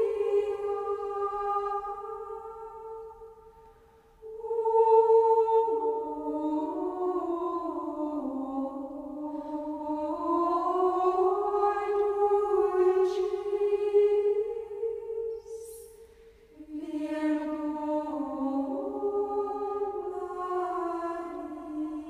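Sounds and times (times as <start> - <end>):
choir singing sustained harmony: 0.0 - 22.0.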